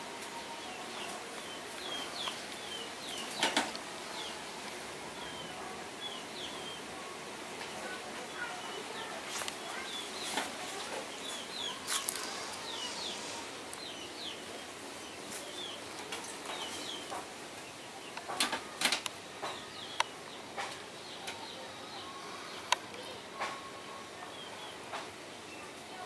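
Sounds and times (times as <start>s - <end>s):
outdoor background noise: 0.0s - 26.0s
small birds chirping: 0.0s - 26.0s.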